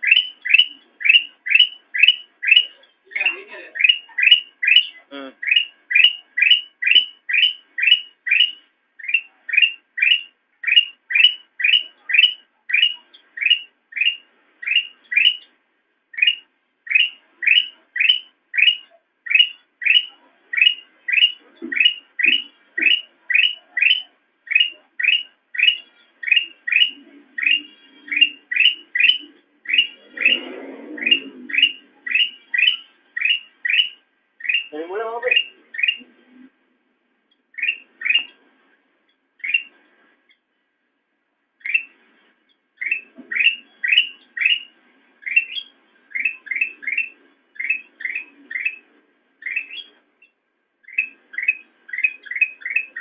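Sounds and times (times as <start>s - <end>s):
bird chirping: 0.0s - 36.5s, 37.2s - 40.6s, 41.6s - 53.0s.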